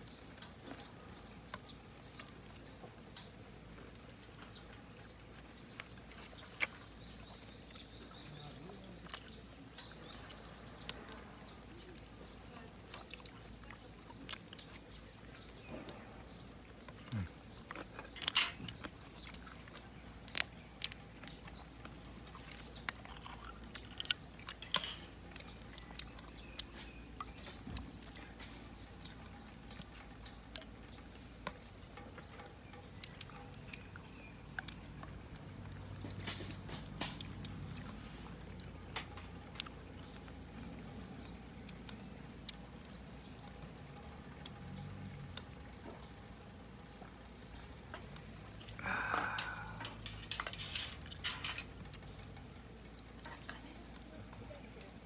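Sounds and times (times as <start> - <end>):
meat crackling in a skillet: 9.2 - 55.0.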